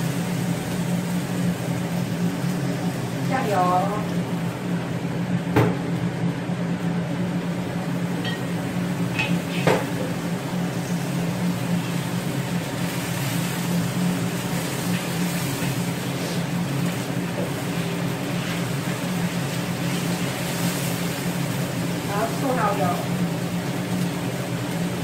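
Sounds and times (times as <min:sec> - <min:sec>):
food sizzling: 0:00.0 - 0:25.0
low electric hum: 0:00.0 - 0:25.0.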